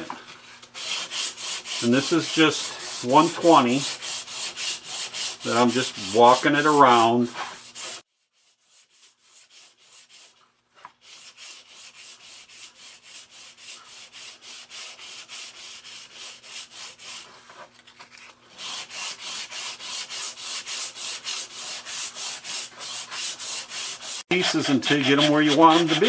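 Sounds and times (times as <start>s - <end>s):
sandpaper rubbing on wood: 0.8s - 10.4s, 11.0s - 17.4s, 18.5s - 26.0s.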